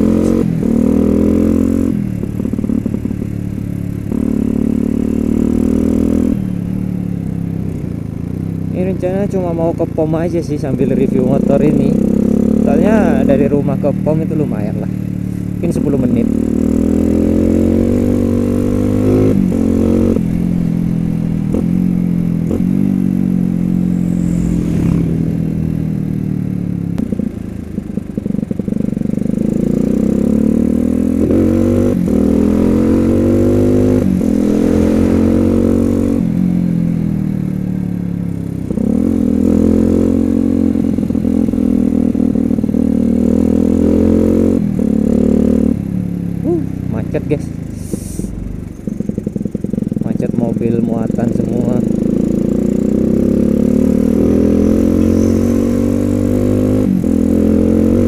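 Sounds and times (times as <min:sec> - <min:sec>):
motorcycle engine accelerating through gears: 0:00.0 - 0:58.0.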